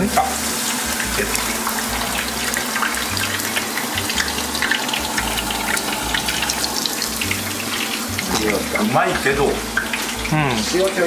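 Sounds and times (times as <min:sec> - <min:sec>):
potato slices deep-frying: 0:00.0 - 0:11.0.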